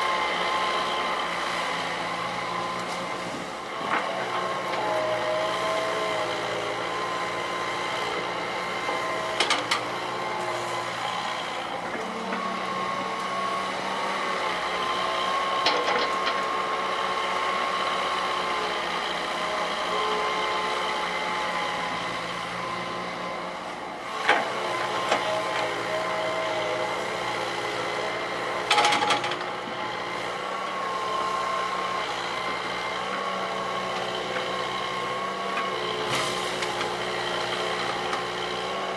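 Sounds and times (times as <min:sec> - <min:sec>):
excavator diesel engine hum: 0:00.0 - 0:38.9.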